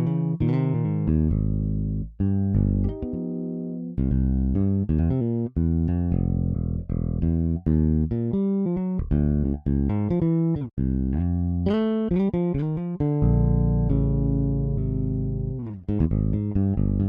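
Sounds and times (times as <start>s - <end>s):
electric bass funk groove: 0.0s - 3.2s, 4.0s - 17.0s.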